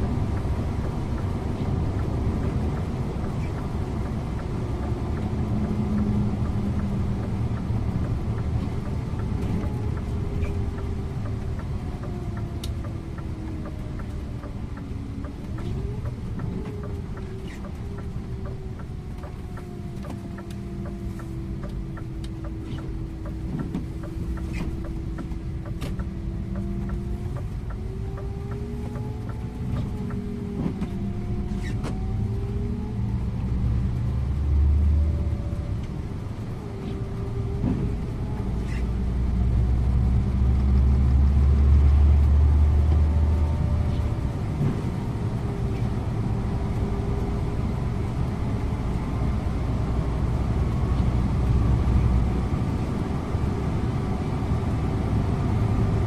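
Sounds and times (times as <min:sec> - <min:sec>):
bus engine and road rumble: 0:00.0 - 0:56.0
drivetrain whine: 0:00.0 - 0:56.0.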